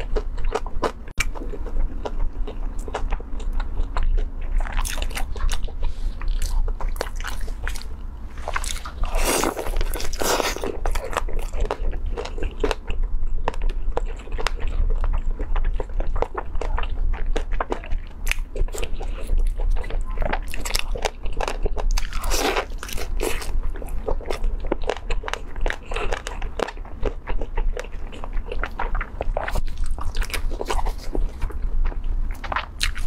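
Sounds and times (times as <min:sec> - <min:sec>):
crunching and chewing fried food: 0:00.0 - 0:33.0.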